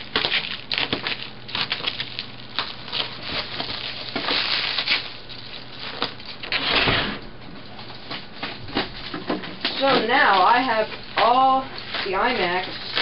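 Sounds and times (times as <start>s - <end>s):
plastic wrap crinkling: 0.0s - 6.8s, 7.6s - 13.0s.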